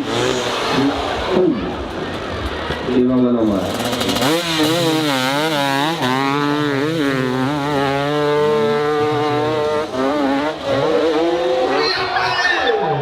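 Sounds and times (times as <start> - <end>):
dirt bike engine revving: 0.0 - 12.7.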